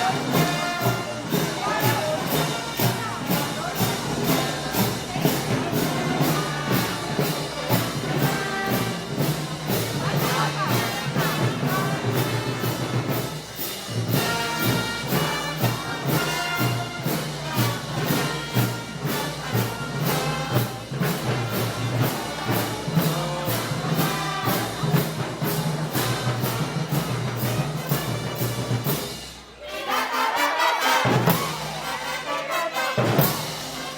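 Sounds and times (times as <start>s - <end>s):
brass playing a tune: 0.0s - 33.9s
drums keeping a steady beat: 0.0s - 33.9s.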